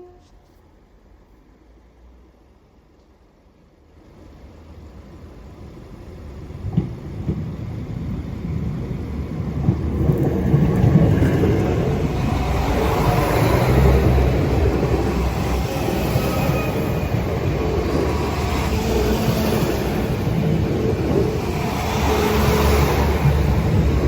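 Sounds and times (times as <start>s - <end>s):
diesel train engines and wheels rumbling: 0.0s - 24.0s.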